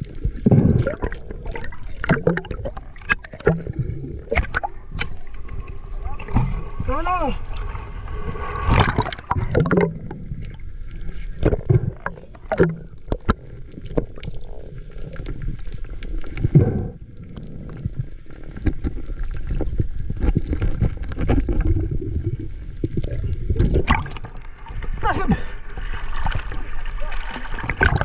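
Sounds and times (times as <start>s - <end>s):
underwater rumble of moving water: 0.0s - 28.0s.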